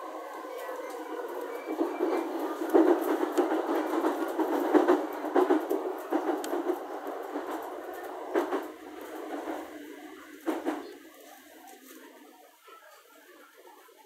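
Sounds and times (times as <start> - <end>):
train wheels clacking over rails: 0.0 - 11.6.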